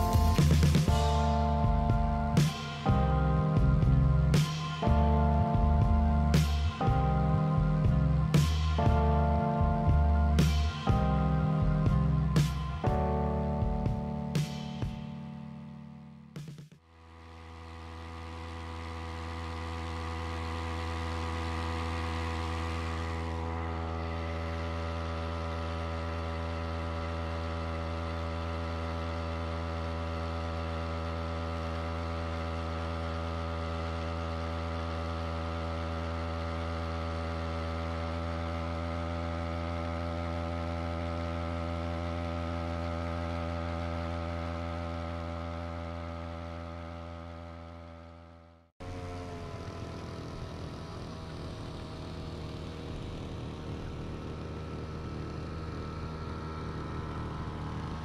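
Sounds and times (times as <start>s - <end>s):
small engine droning: 0.0s - 58.0s.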